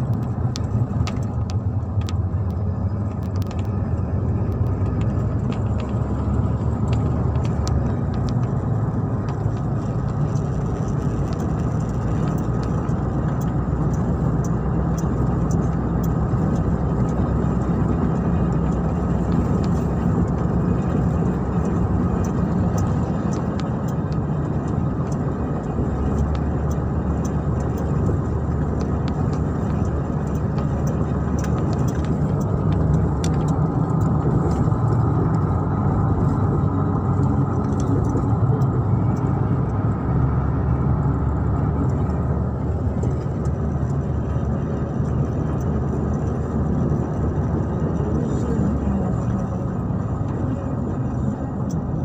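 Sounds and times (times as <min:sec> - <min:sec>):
car engine and tyre road noise: 0:00.0 - 0:52.0.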